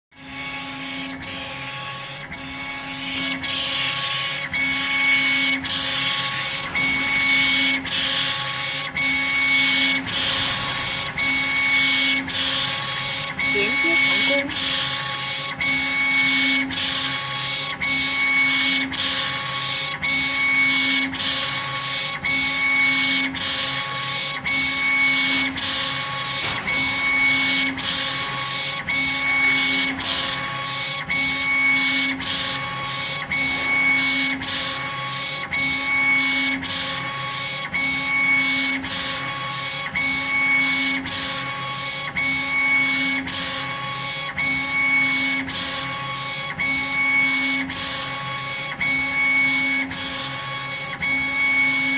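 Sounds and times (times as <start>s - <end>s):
laser engraver motor whine: 0.2s - 51.9s
machine hum: 0.2s - 51.9s.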